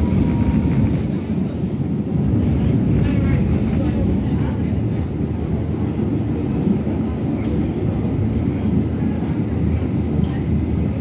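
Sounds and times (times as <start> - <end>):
subway train wheels rumbling: 0.0 - 11.0.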